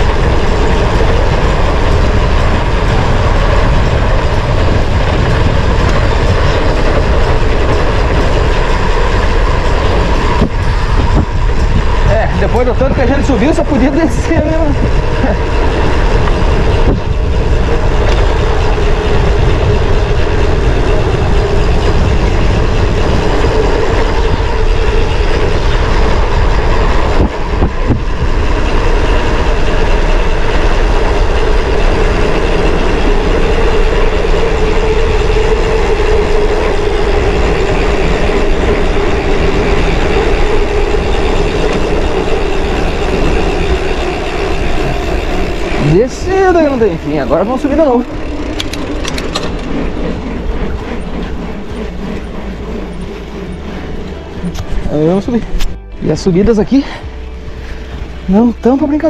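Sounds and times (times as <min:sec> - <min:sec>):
bike tyres rumbling over trail: 0:00.0 - 0:59.0
wind rush on microphone: 0:00.0 - 0:59.0.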